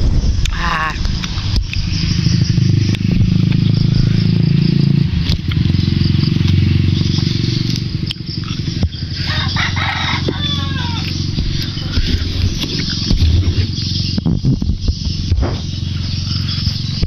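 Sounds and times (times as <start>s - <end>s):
small engine humming: 1.4s - 17.0s.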